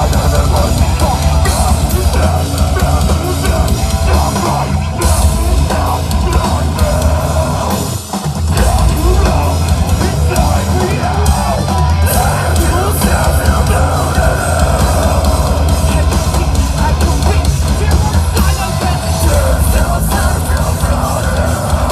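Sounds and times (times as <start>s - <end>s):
drum kit: 0.0s - 21.9s
guitars: 0.0s - 21.9s
rock band playing live: 0.0s - 21.9s.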